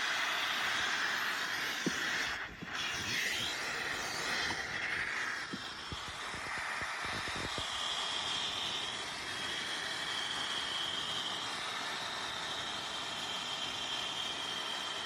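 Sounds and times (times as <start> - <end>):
garment steamer hissing: 0.0 - 15.0.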